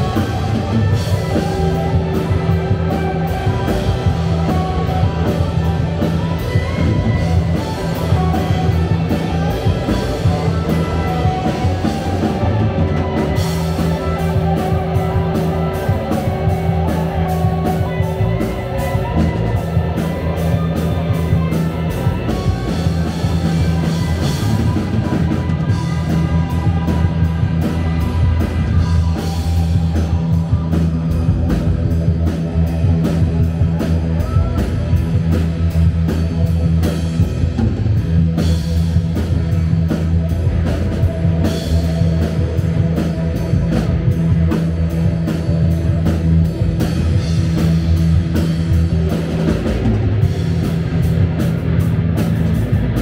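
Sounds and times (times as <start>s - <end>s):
drum kit steady beat: 0.0s - 53.0s
electric bass: 0.0s - 53.0s
electric guitar: 0.0s - 53.0s
keyboards: 0.0s - 53.0s.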